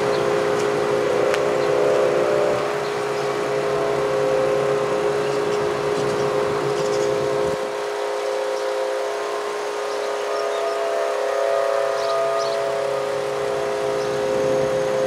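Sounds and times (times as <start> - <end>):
vehicle rumbling: 0.0 - 15.0
warning siren steady tone: 0.0 - 15.0.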